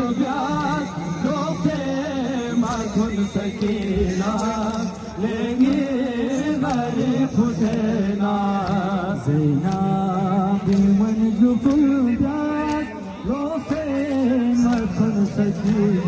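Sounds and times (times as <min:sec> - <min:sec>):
man chanting a lament: 0:00.0 - 0:16.0.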